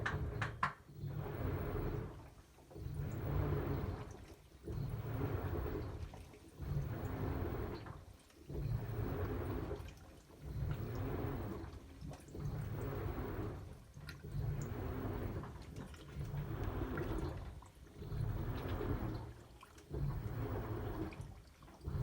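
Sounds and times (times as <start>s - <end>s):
faint motor whine: 0.0s - 22.0s
washing machine water sloshing: 0.0s - 22.0s.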